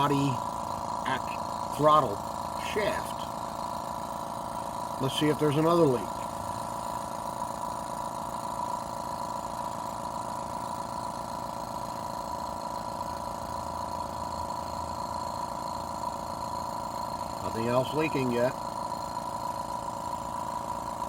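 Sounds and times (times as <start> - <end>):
electric air pump humming: 0.0 - 21.0.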